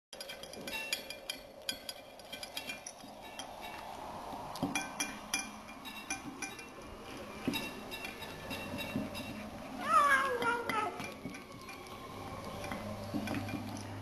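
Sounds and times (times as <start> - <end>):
bowl clinking: 0.2 - 14.0.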